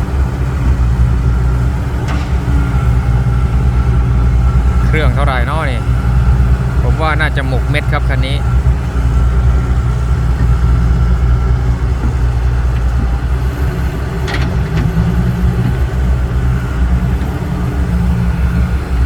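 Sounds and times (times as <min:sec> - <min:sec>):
diesel engine at low revs: 0:00.0 - 0:19.0.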